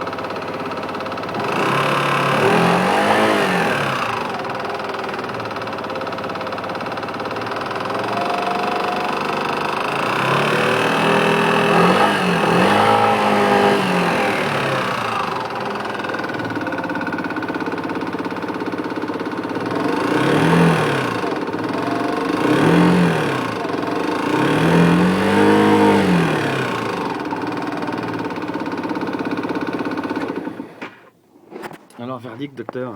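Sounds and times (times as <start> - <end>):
scooter engine idling and revving: 0.0 - 31.8
small engine rattle: 0.0 - 32.9.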